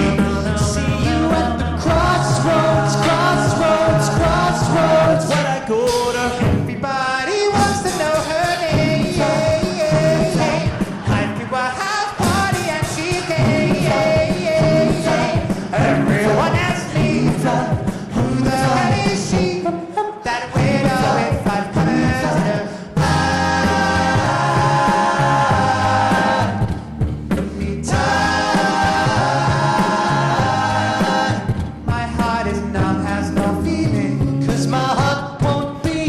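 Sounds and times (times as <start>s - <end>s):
vocal group singing in harmony: 0.0s - 36.0s
vocal percussion: 0.0s - 36.0s.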